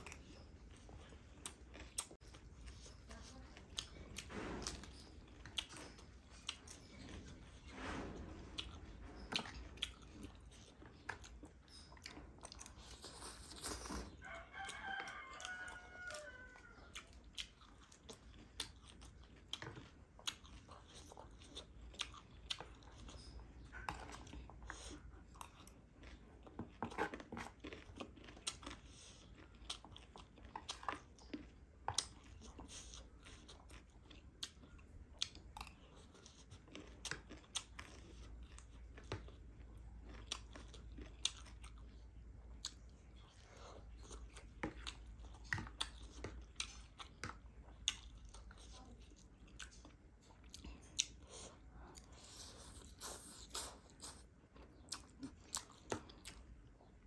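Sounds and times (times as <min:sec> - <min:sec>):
chewing noodles: 0:00.0 - 0:57.0.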